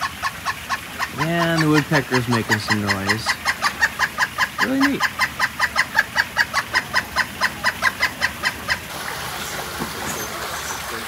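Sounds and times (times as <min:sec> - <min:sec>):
running water: 0:00.0 - 0:11.0
woodpecker calling: 0:00.0 - 0:11.0.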